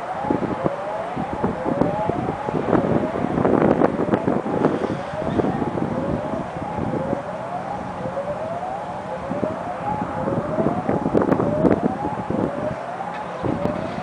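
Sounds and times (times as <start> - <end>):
warning siren whooping: 0.0 - 14.0
wind buffeting microphone: 0.0 - 14.0.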